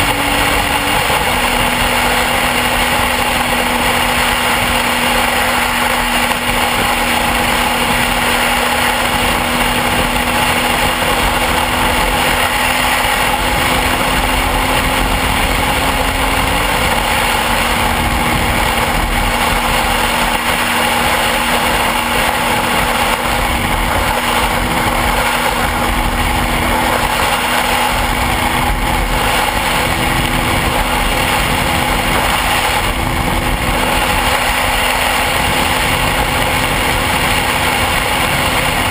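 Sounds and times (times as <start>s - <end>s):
motorcycle engine running: 0.0s - 38.9s
rush of noise: 0.0s - 38.9s.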